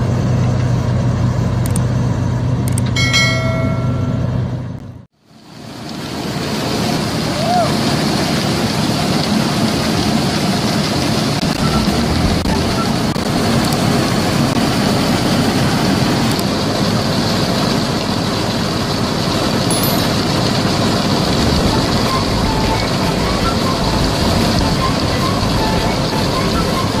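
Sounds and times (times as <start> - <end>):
combine harvester running: 0.0 - 27.0.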